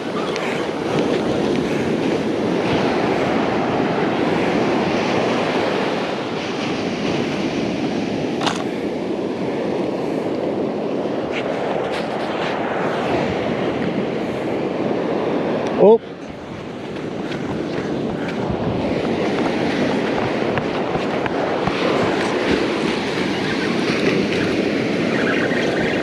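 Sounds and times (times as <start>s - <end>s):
ocean surf on beach: 0.0s - 26.0s
wind on microphone: 0.0s - 26.0s.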